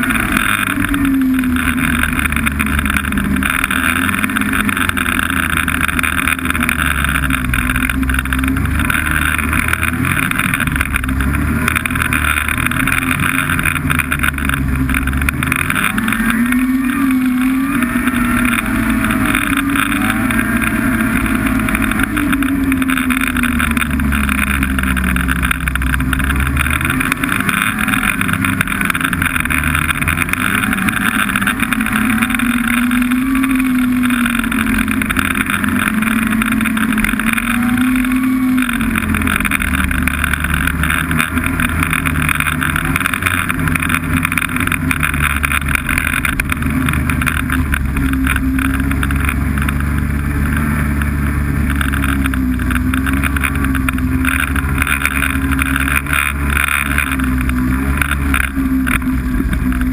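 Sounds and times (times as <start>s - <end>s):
snowmobile engine revving: 0.0s - 59.9s
steady rushing noise: 0.0s - 59.9s.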